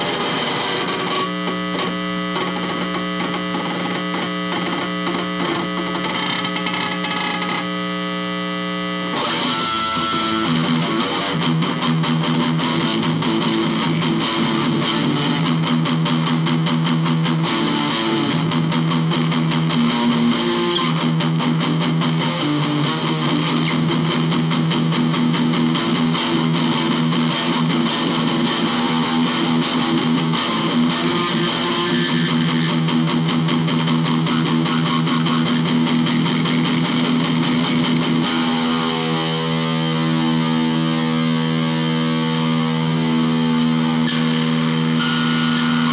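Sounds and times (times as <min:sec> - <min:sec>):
distorted electric guitar: 0:00.0 - 0:45.9.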